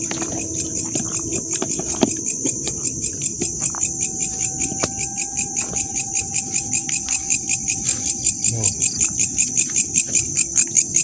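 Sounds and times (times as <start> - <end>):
night insects pulsing chorus: 0.0 - 11.0.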